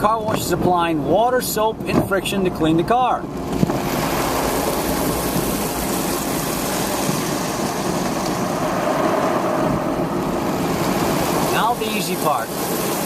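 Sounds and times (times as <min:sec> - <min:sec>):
car wash water spraying: 0:00.0 - 0:13.0.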